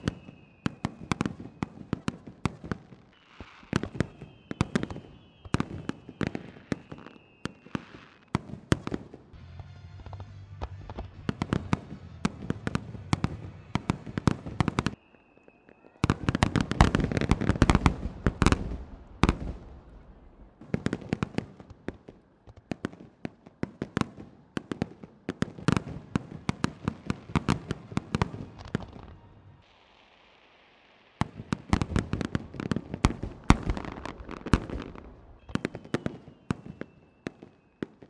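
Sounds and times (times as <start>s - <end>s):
fireworks bursting with sharp bangs: 0.0s - 38.0s.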